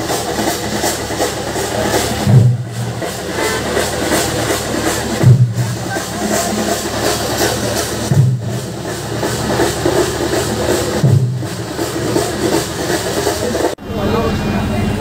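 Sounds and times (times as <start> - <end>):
deep drum-like hit: 0.0 - 13.8
music with busy backing: 0.0 - 15.0.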